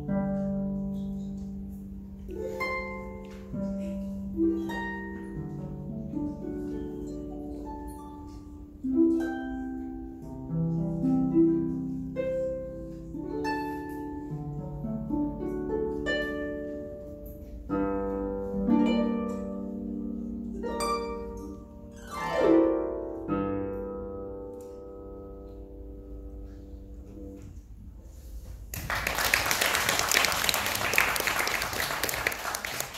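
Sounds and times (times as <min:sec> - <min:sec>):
harp playing notes and chords: 0:00.0 - 0:27.4.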